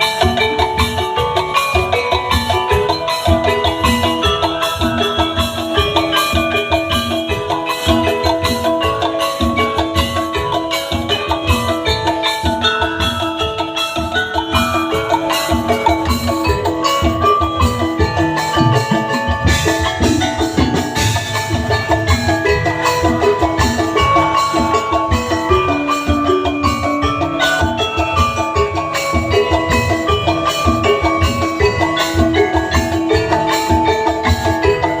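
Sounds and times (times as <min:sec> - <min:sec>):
bamboo and wooden percussion ensemble: 0:00.0 - 0:35.0
xylophone-like melody: 0:00.0 - 0:35.0.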